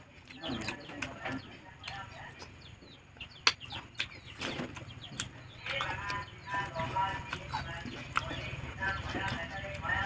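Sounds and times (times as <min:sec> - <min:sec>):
birds chirping: 0:00.0 - 0:10.0
chewing: 0:00.0 - 0:10.0.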